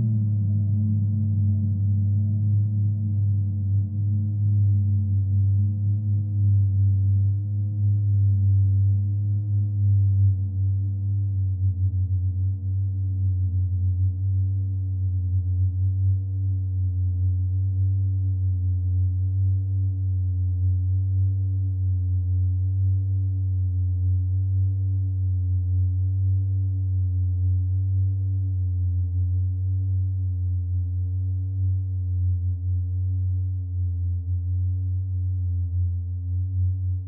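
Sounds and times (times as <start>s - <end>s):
deep electronic drone: 0.0s - 37.0s.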